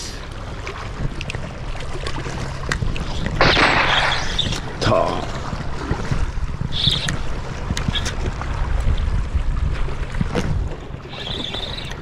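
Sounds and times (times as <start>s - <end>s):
sea water washing on rocks: 0.7s - 12.0s
wind on microphone: 0.8s - 12.0s.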